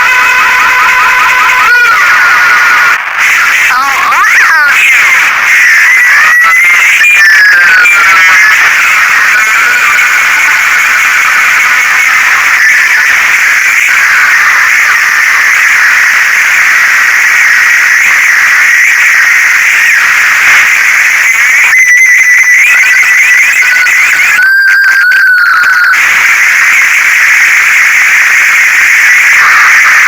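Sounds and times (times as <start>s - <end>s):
loud distorted hissing: 0.0s - 30.0s.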